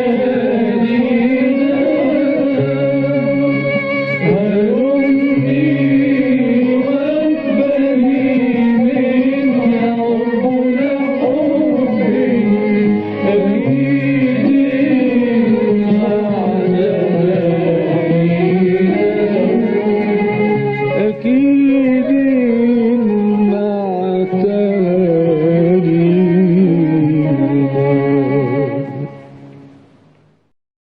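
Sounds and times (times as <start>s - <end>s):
man singing: 0.0s - 29.4s
instrumental accompaniment: 0.0s - 30.5s.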